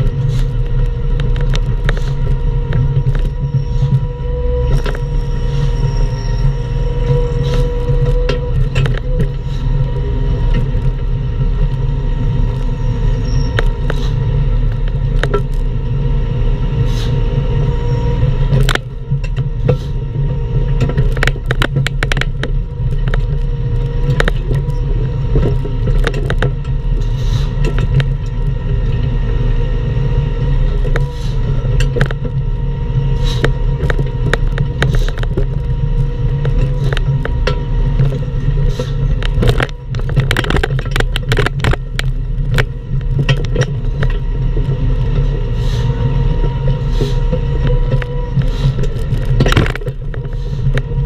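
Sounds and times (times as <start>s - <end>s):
knocks and scrapes of digging: 0.0s - 15.7s, 18.5s - 29.2s, 30.5s - 32.4s, 33.1s - 51.0s
mini excavator diesel engine: 0.0s - 51.0s
steady whine: 0.0s - 51.0s.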